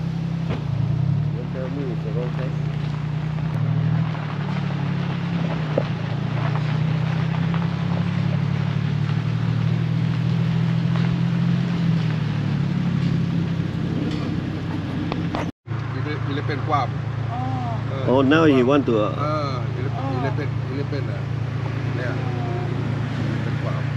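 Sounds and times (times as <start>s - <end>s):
gravel road noise: 0.0s - 23.9s
truck engine running steadily: 0.0s - 23.9s.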